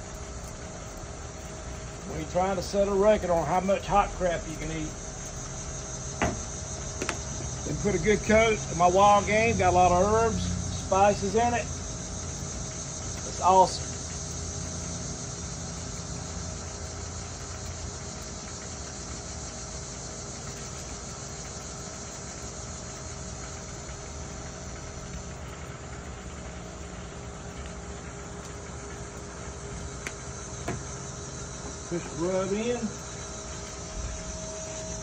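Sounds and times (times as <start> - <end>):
insect chorus: 0.0 - 35.0
low mechanical hum: 0.0 - 35.0.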